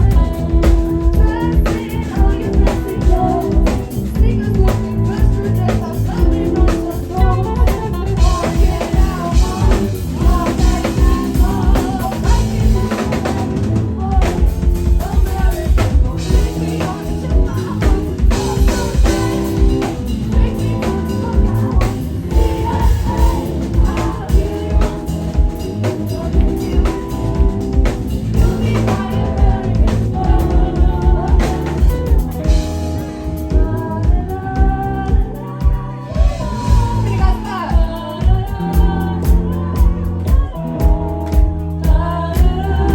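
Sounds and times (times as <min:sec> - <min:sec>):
drum kit beat: 0:00.0 - 0:42.9
live band playing: 0:00.0 - 0:42.9.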